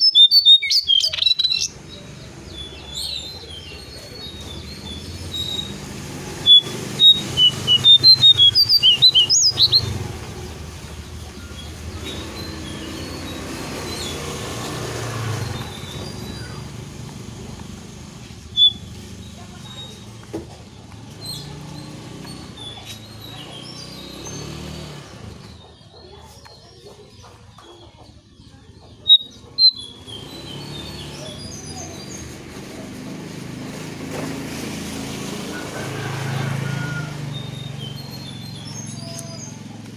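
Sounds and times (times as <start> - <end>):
bird chirping: 0.0 - 20.2, 21.0 - 32.4, 37.0 - 39.9.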